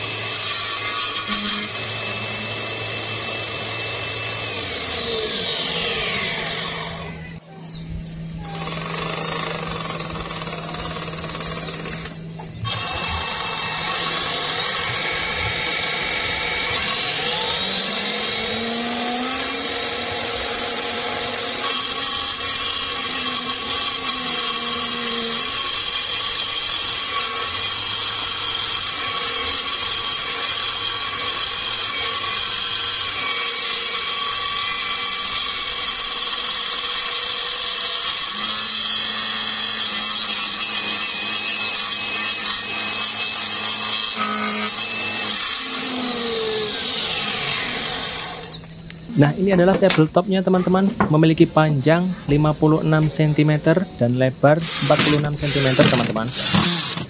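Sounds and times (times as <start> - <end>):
saw motor whine: 0.0 - 57.0.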